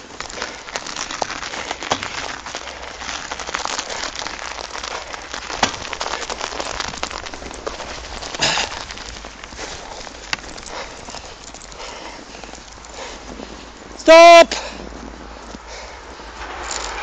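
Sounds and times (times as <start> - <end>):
snow crunching underfoot: 0.0 - 17.0.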